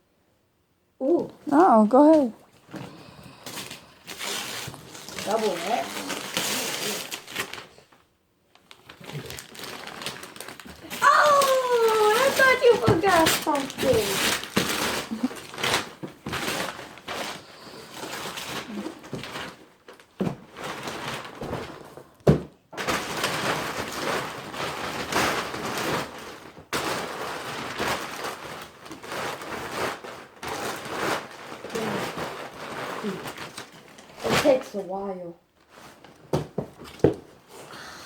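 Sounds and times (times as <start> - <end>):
gift wrapping rustling and tearing: 1.1 - 37.8.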